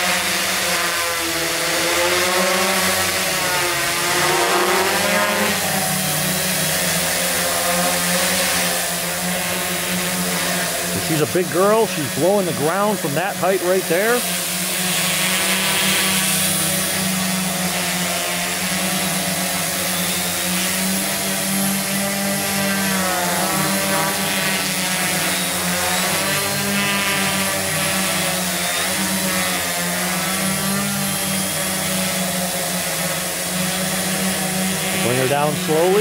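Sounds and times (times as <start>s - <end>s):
drone propellers buzzing: 0.0s - 36.0s.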